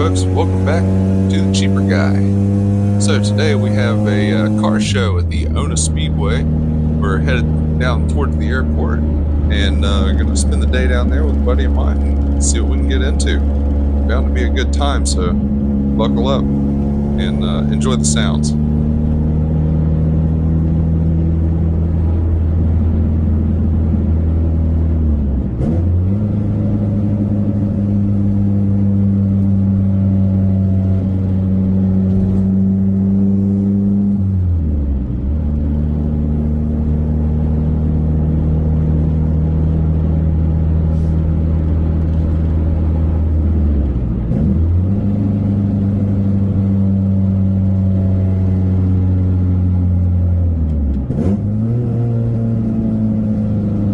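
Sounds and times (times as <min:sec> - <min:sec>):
car engine running: 0:00.0 - 0:53.9.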